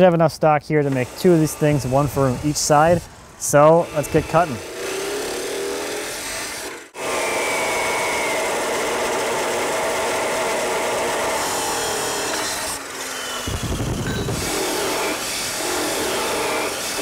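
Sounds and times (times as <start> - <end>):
chop saw cutting steel: 0.8 - 17.0.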